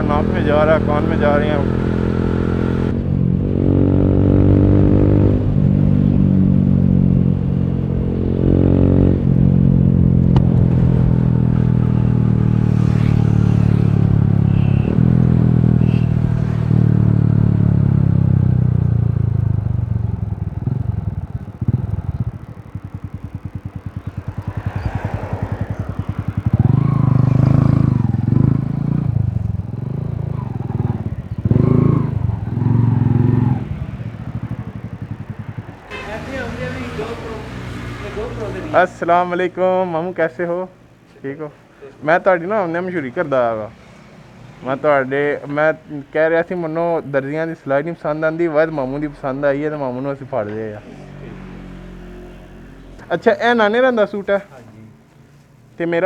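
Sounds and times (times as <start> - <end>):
motorcycle engine revving: 0.0 - 41.1, 42.2 - 55.2.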